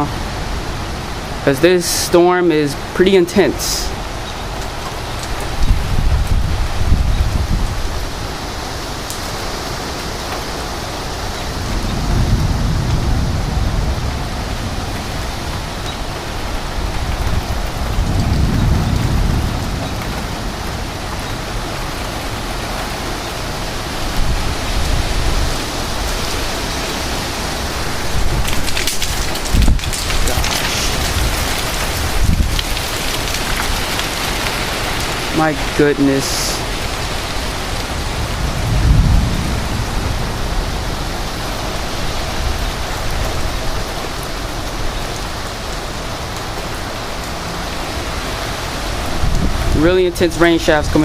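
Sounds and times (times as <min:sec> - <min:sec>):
heavy rain pouring: 0:00.0 - 0:51.0
strong gusting wind: 0:00.0 - 0:51.0.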